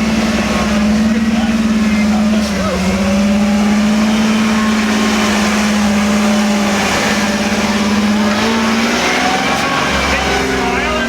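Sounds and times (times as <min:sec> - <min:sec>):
car engine at high revs: 0:00.0 - 0:11.0
low rumbling: 0:00.0 - 0:11.0.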